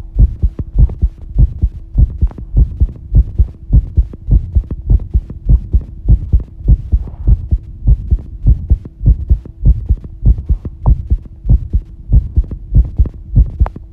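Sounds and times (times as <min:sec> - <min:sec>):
faint steady hum: 0:00.0 - 0:13.9
fast heartbeat thumps: 0:00.0 - 0:13.9.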